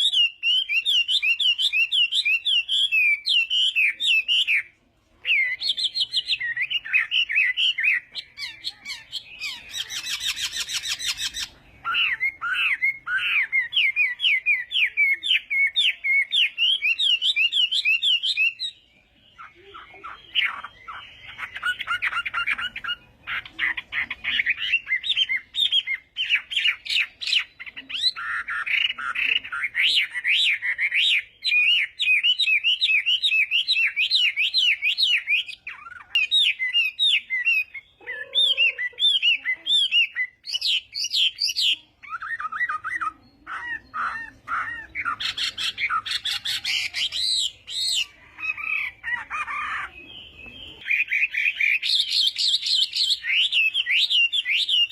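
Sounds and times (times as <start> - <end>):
bird singing whistled phrases: 0.0 - 54.9.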